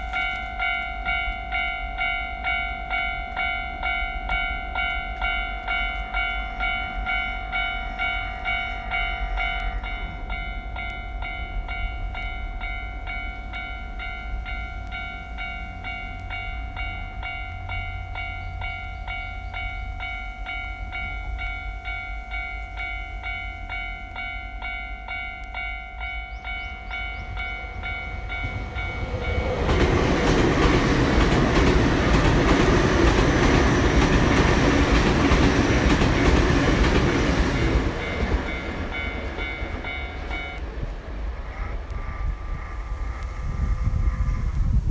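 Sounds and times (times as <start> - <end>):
level-crossing alarm bell ringing: 0.0 - 40.7
train wheels rumbling on rail: 0.0 - 44.9.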